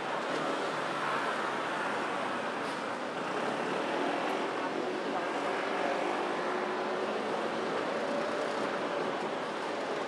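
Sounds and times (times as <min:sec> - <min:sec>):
city road traffic hum: 0:00.0 - 0:10.0.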